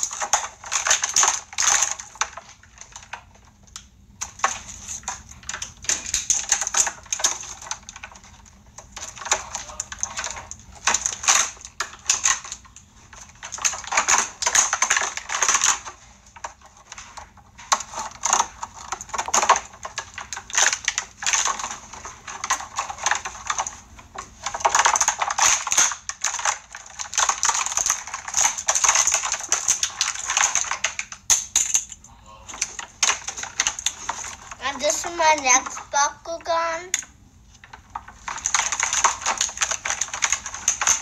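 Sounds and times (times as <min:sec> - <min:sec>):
plastic packaging crinkling: 0:00.0 - 0:36.7, 0:37.5 - 0:41.0.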